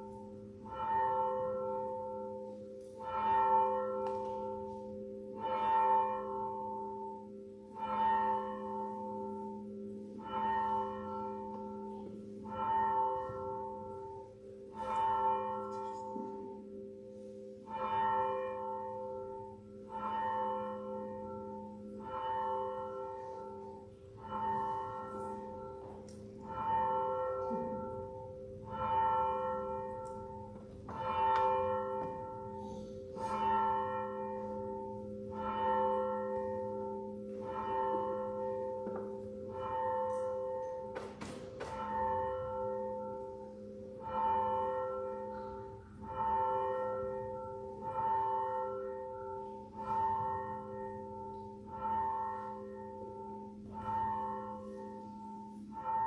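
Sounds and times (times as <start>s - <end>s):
church bell tolling: 0.0s - 56.0s.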